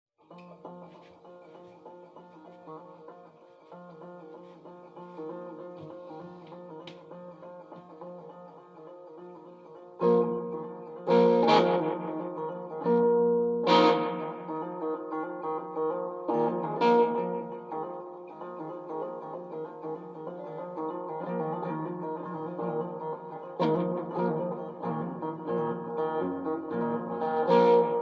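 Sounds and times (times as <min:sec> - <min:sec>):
picked guitar notes: 0:00.2 - 0:28.0
guitar strum: 0:00.3 - 0:28.0.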